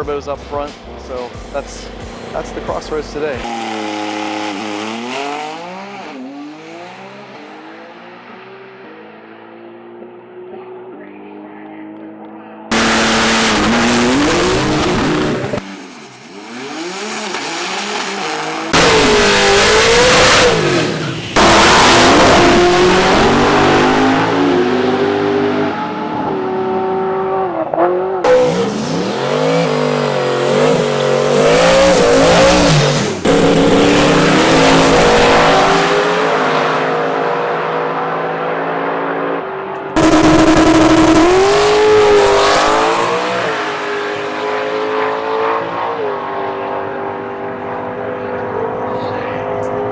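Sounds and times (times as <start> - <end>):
race car engines revving: 0.0 - 49.9.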